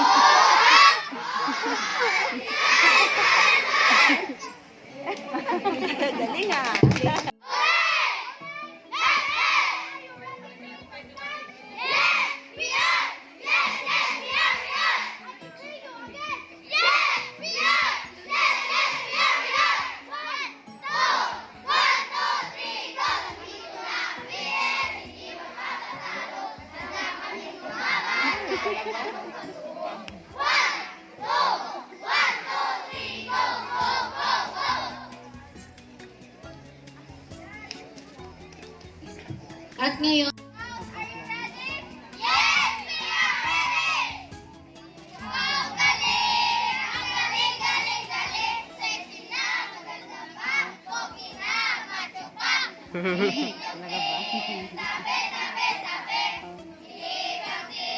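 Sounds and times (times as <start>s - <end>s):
children shouting and cheering: 0.0s - 35.4s, 36.0s - 39.8s, 40.4s - 57.9s.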